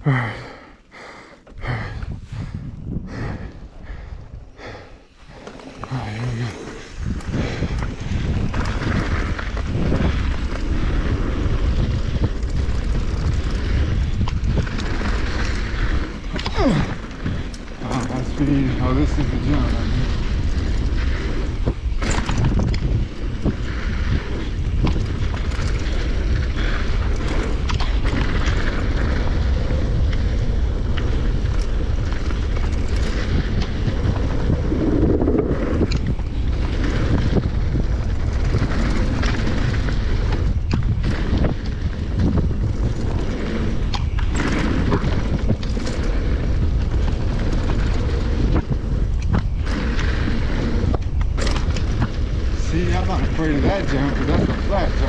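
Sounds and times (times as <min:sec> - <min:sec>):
bike tyres rumbling on dirt trail: 0:00.0 - 0:55.0
wind buffeting microphone: 0:00.0 - 0:55.0.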